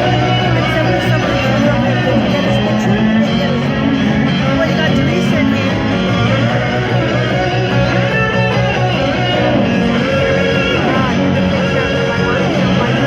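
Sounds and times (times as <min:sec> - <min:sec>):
blues-rock band playing: 0:00.0 - 0:13.0
lead guitar gliding notes: 0:00.0 - 0:13.0
steady bass line: 0:00.0 - 0:13.0.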